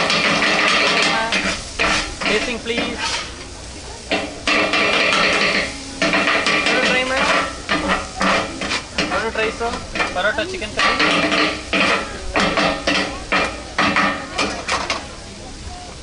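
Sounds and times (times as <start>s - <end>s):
metal spatulas scraping on griddle: 0.0s - 15.0s
food sizzling: 0.0s - 16.0s.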